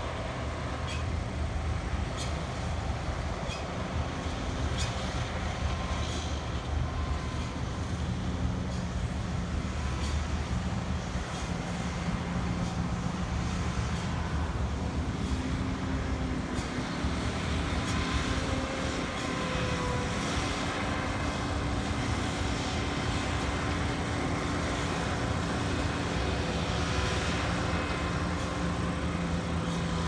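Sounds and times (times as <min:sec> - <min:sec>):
combine harvester engine drone: 0:00.0 - 0:30.0.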